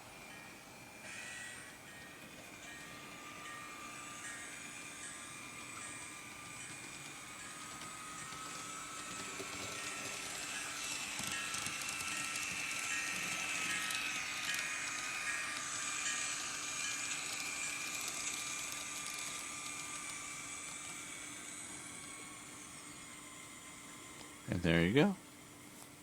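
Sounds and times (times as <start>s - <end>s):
model locomotive electric whine: 0.0s - 26.0s.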